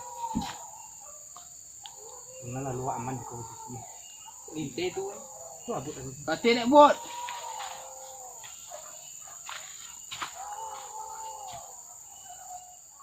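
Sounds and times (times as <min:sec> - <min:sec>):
dogs baying: 0:00.0 - 0:05.7, 0:07.0 - 0:13.0
insect drone: 0:00.0 - 0:13.0.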